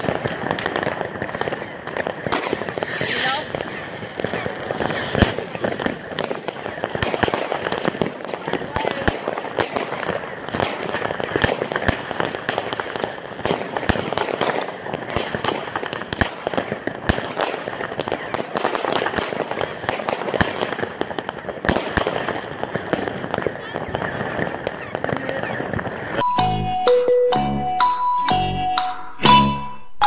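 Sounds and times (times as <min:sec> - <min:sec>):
firework crackling: 0:00.0 - 0:26.2
fireworks bangs: 0:00.0 - 0:26.3.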